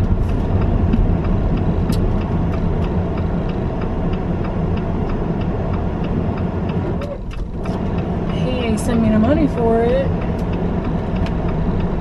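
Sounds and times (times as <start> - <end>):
engine and road rumble: 0.0 - 12.0
turn signal ticking: 0.0 - 12.0.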